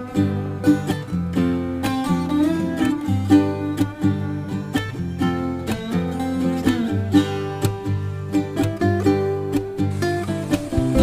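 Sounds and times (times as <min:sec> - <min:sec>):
plucked guitar-like instrumental: 0:00.0 - 0:11.0.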